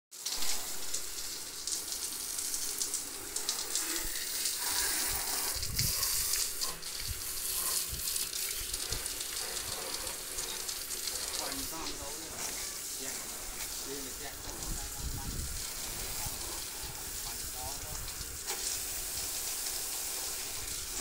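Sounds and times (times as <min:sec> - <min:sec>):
hose water spraying: 0:00.1 - 0:21.0.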